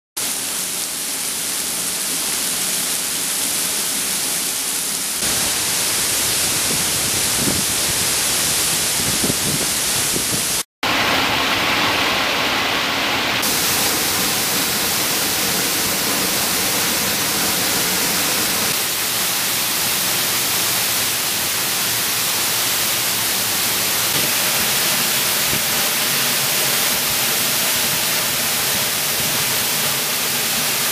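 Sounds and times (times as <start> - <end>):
waterfall rushing: 0.3 - 30.9.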